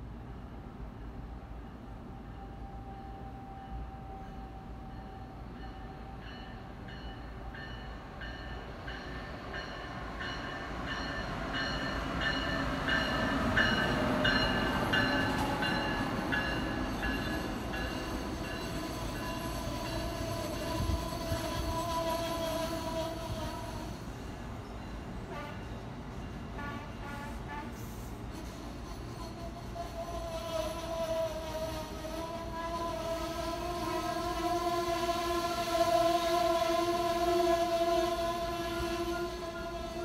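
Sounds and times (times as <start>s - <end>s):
electric train passing: 0.0s - 40.0s.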